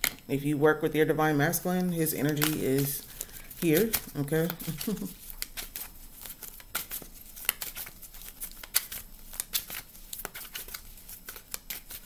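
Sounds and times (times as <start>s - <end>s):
cards being shuffled: 2.2s - 12.0s.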